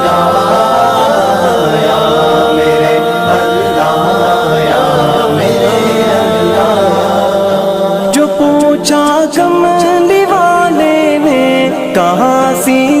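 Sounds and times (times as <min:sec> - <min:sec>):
person singing long wavering notes: 0:00.0 - 0:12.1.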